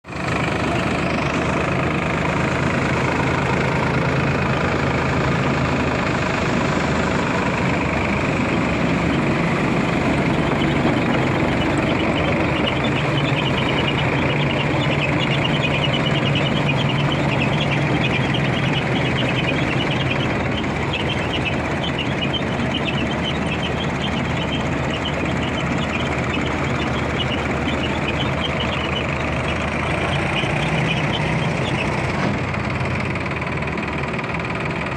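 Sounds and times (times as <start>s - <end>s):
rapid engine ticking: 0.0s - 34.9s
tractor diesel engine running: 0.0s - 34.9s.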